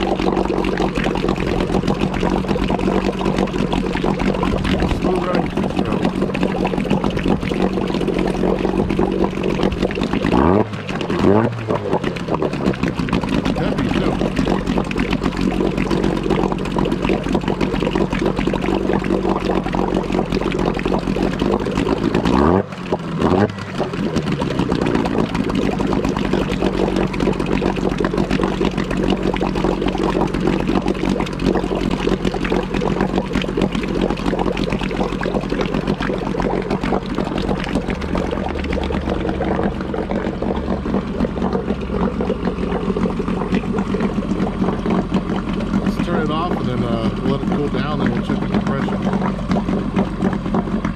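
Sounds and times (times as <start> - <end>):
outboard motor running: 0.0 - 50.9.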